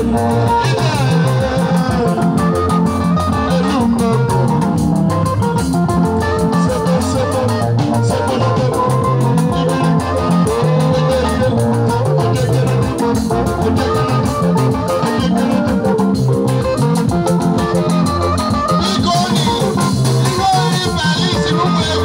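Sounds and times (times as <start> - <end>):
electric guitars and bass: 0.0 - 22.0.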